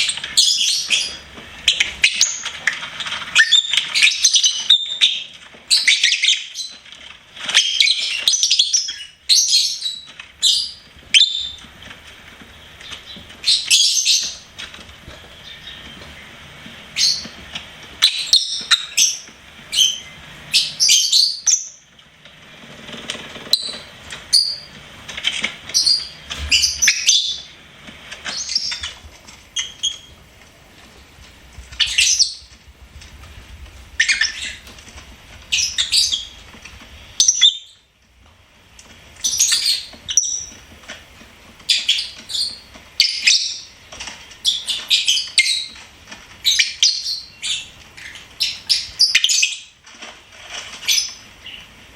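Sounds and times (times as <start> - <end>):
lovebirds chirping: 0.0 - 21.9, 22.8 - 30.3, 31.0 - 32.7, 33.8 - 34.8, 35.4 - 37.9, 39.1 - 40.7, 41.6 - 49.8.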